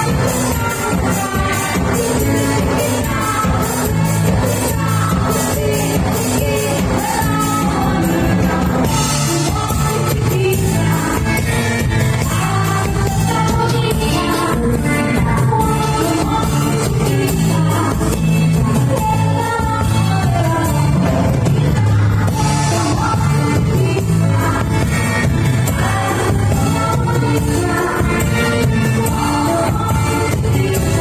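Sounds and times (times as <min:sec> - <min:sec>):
live disco band: 0:00.0 - 0:31.0
person singing: 0:00.0 - 0:31.0.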